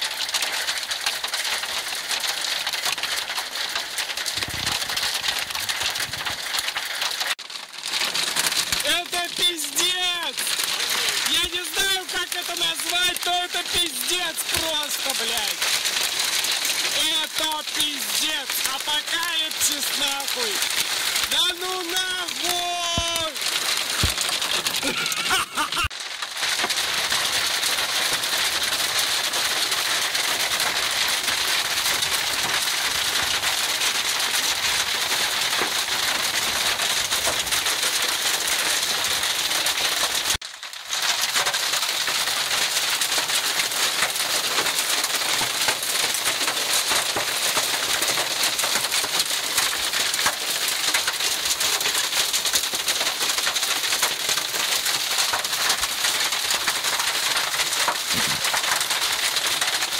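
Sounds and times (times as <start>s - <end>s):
hail clattering on ground: 0.0s - 59.9s.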